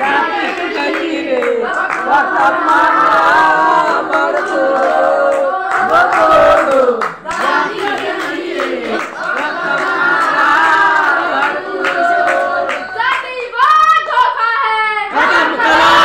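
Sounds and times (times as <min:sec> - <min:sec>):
hand clapping: 0:00.0 - 0:13.8
young voices singing in unison: 0:00.0 - 0:16.0.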